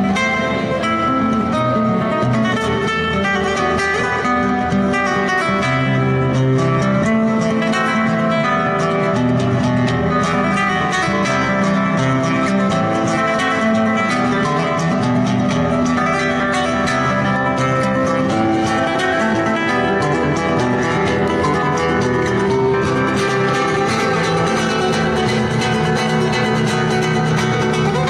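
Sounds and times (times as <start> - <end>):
flamenco acoustic guitar: 0.0 - 28.0.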